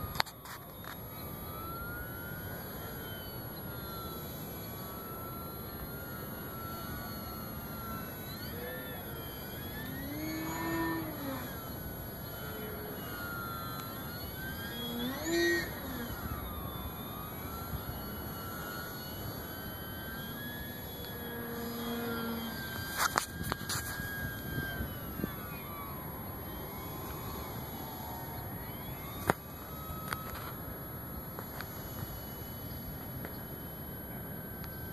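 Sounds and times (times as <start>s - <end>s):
model airplane motor whine: 0.0s - 34.9s.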